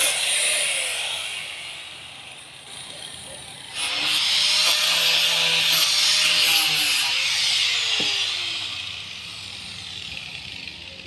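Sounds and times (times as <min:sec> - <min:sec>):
angle grinder running: 0:00.0 - 0:11.0.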